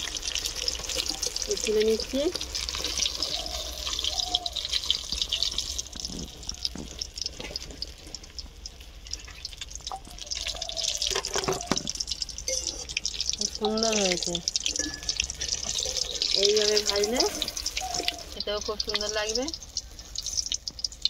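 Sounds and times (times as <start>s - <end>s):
oil sizzling and crackling: 0.0s - 21.0s.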